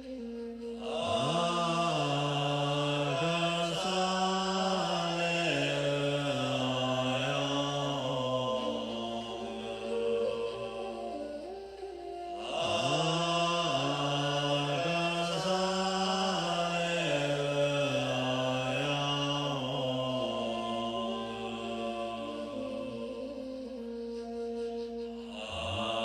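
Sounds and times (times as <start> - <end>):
deep voice chanting: 0.0 - 26.0.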